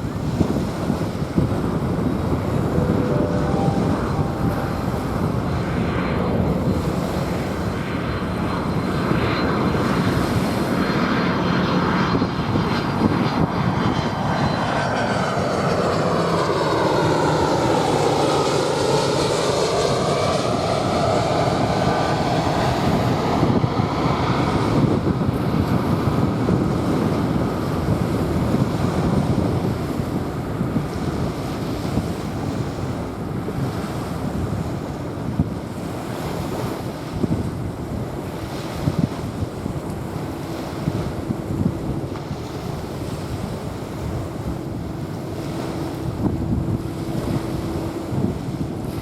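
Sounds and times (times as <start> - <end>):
jet airliner passing overhead: 0.0 - 49.0
waves washing on sand: 0.0 - 49.0.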